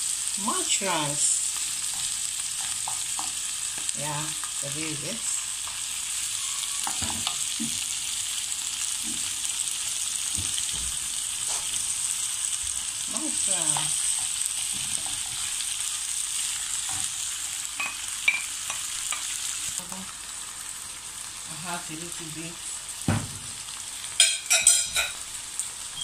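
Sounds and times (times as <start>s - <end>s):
vegetables sizzling in frying pan: 0.0s - 26.0s.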